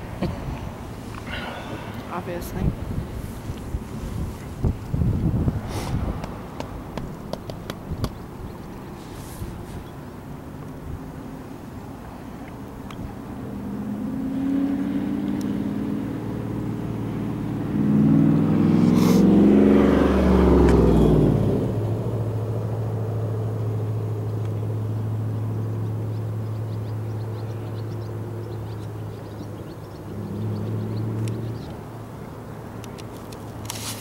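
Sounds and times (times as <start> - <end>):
vehicle engine passing by: 0.0 - 10.0, 11.9 - 34.0
low engine hum: 0.0 - 34.0.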